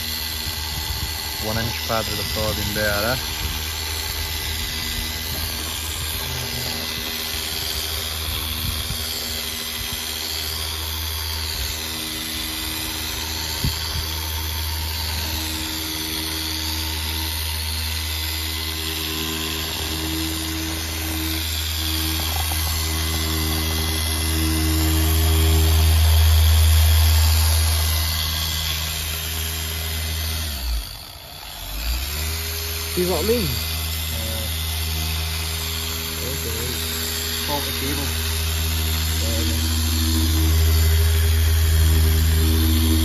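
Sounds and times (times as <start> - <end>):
polisher motor whine: 0.0 - 43.0.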